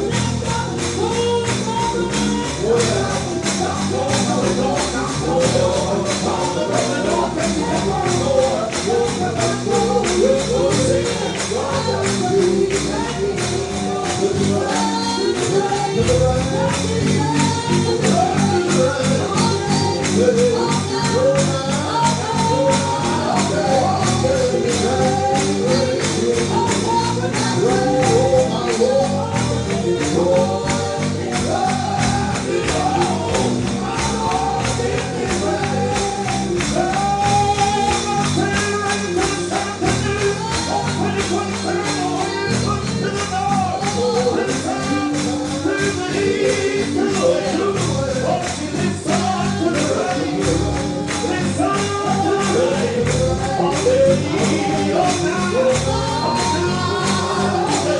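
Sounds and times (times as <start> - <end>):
person singing gospel: 0.0 - 57.9
tambourine beat: 0.0 - 57.9.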